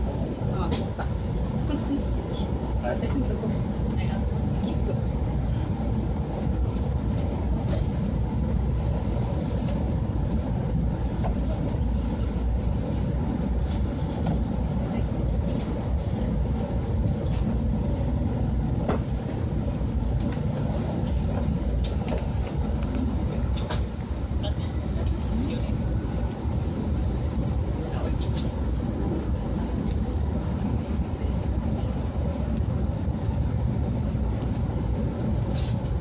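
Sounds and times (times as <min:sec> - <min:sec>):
train rumble inside cabin: 0:00.0 - 0:36.0.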